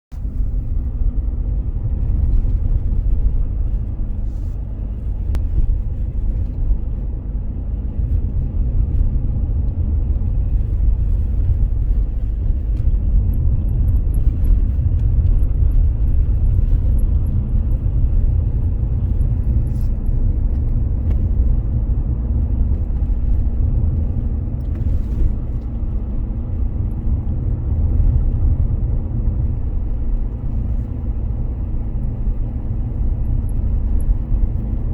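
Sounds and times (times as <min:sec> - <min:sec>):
road and drivetrain rumble: 0:00.0 - 0:34.9.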